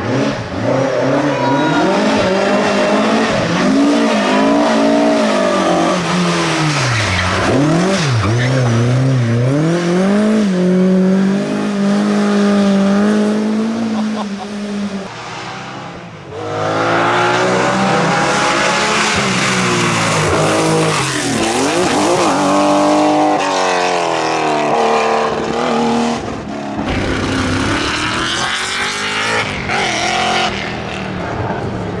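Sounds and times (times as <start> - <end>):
rally car engine at high revs: 0.0 - 32.0.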